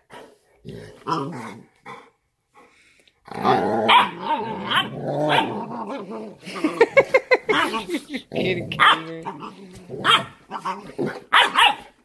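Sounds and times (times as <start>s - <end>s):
dogs growling: 0.0s - 2.2s, 3.2s - 11.5s.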